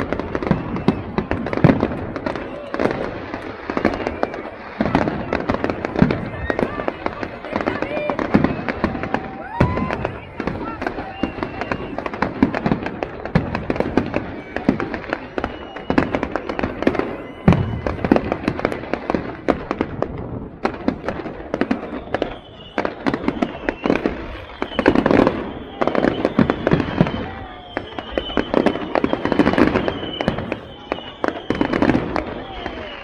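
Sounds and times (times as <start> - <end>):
fireworks crackling and popping: 0.0 - 33.0.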